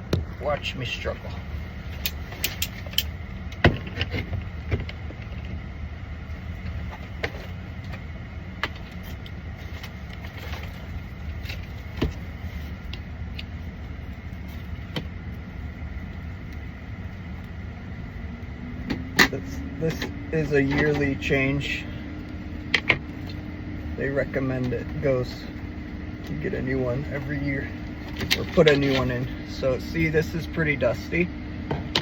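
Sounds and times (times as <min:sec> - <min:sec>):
dehumidifier humming: 0:00.0 - 0:32.0.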